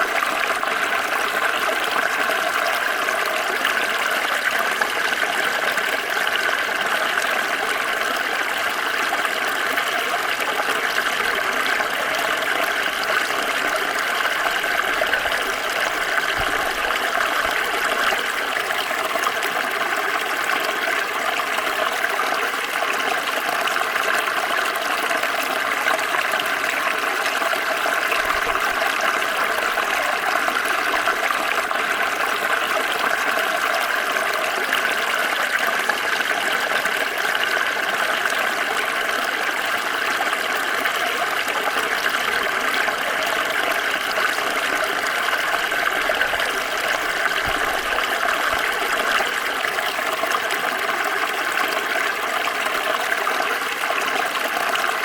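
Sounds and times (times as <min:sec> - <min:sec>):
stream water splashing over stones: 0:00.0 - 0:55.0.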